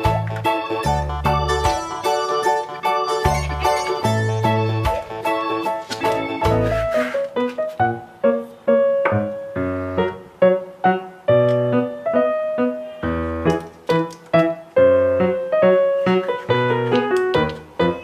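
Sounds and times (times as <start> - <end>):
light piano keyboard tune: 0.0 - 18.0.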